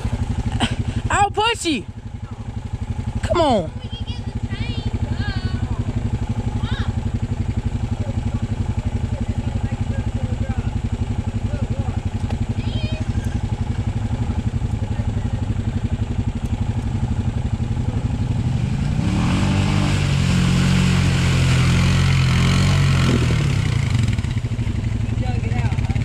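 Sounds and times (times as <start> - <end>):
atv engine idling and revving: 0.0 - 26.0.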